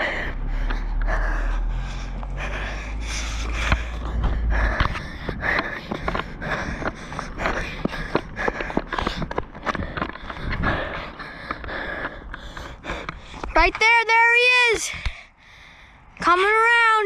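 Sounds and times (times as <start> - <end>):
person panting: 0.0 - 13.6, 14.8 - 16.2
wind buffeting microphone: 0.0 - 13.8.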